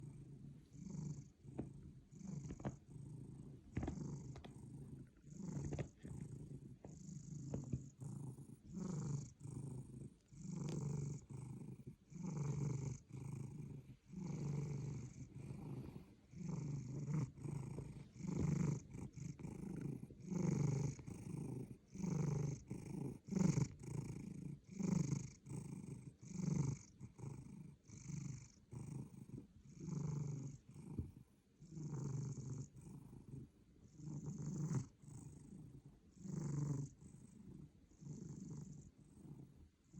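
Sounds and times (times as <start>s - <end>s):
cat snoring: 0.0s - 39.9s.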